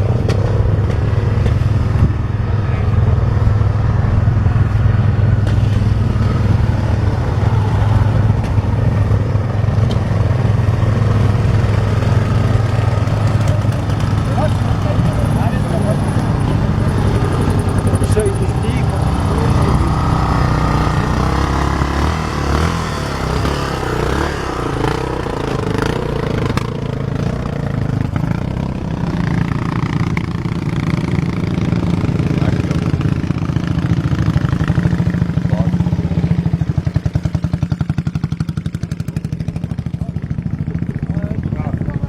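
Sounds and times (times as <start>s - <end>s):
motorcycle engines running: 0.0s - 42.0s.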